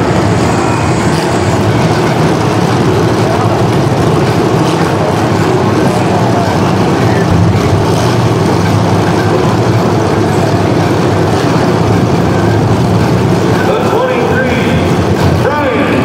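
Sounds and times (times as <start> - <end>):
car engines running: 0.0 - 16.0.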